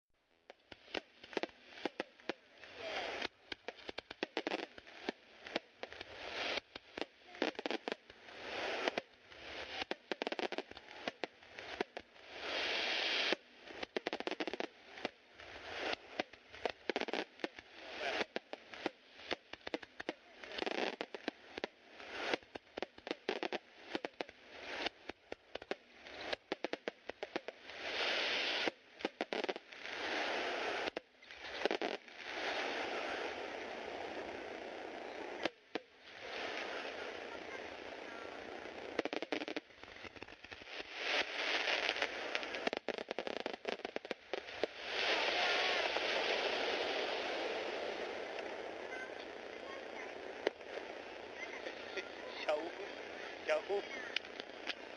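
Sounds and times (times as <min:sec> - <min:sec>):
fireworks bursting with bangs: 0:00.2 - 0:54.9
fireworks crackling: 0:00.2 - 0:54.9.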